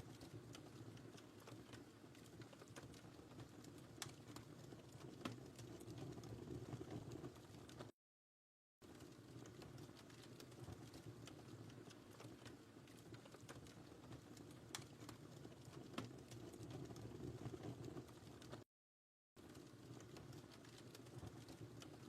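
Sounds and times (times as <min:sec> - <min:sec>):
fireplace fire crackling: 0:00.0 - 0:07.9, 0:08.8 - 0:18.6, 0:19.4 - 0:22.0.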